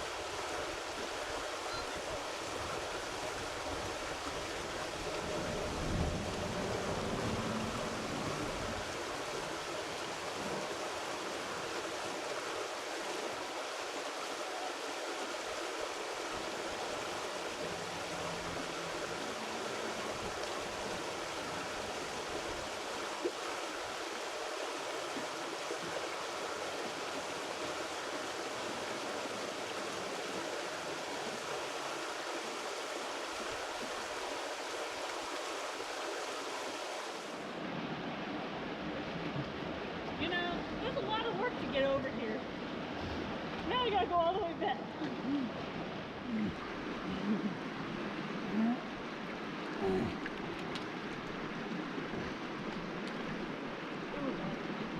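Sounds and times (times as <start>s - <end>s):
creek water rushing: 0.0s - 54.9s.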